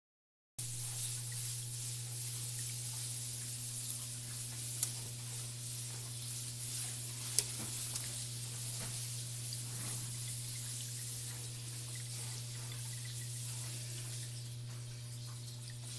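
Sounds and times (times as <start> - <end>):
steady hiss: 0.6 - 15.9.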